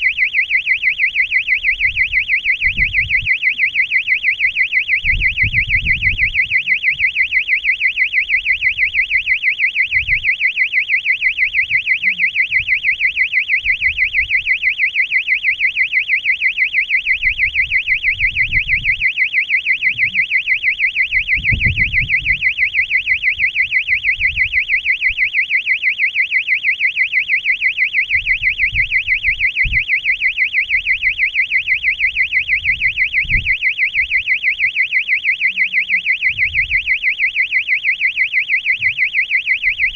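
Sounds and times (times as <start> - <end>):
warbling electronic buzzer: 0.0 - 39.9.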